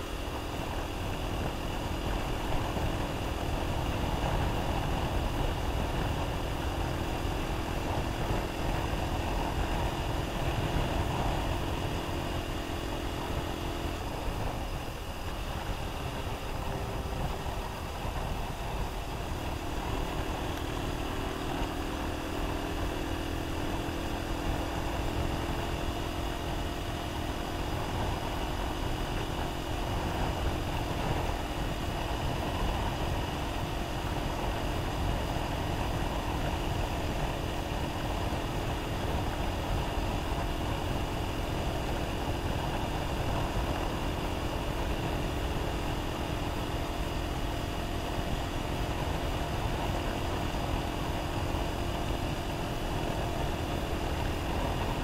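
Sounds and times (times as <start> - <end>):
motorcycle engine cruising: 0.0 - 55.0
wind noise on microphone: 0.0 - 55.0.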